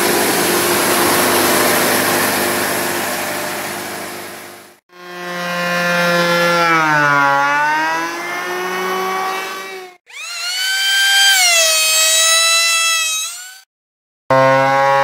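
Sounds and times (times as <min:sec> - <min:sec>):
electric planer shaving wood: 0:00.0 - 0:04.3, 0:04.9 - 0:13.7, 0:14.3 - 0:15.0.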